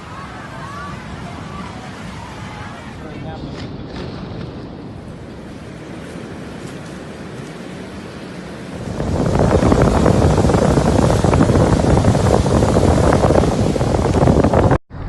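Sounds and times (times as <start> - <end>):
surf: 0.0 - 14.8
wind buffeting microphone: 0.0 - 15.0.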